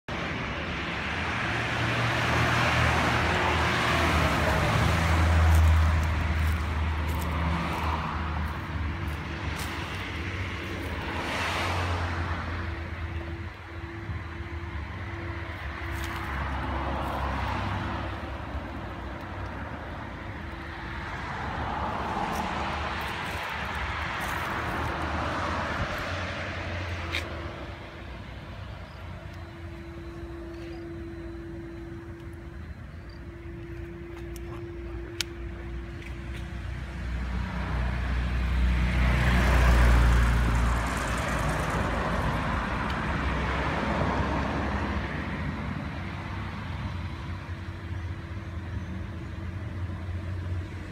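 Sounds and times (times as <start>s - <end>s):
cars passing: 0.1s - 50.9s
steady low traffic hum: 0.1s - 50.9s.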